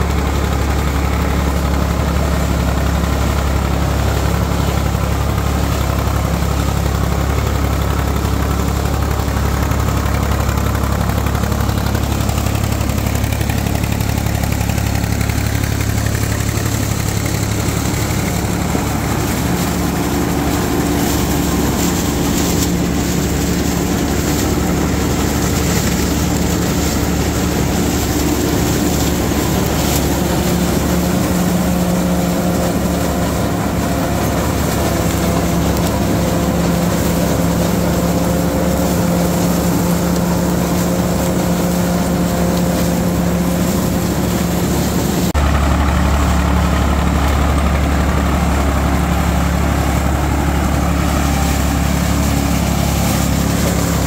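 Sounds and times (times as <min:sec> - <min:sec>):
corn picker machinery running: 0:00.0 - 0:54.0
tractor diesel engine under load: 0:00.0 - 0:54.0.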